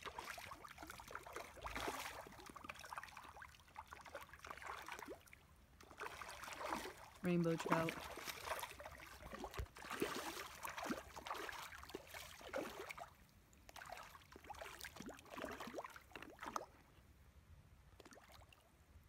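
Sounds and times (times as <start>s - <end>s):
fish splashing and slurping: 0.0s - 17.1s, 17.9s - 19.0s.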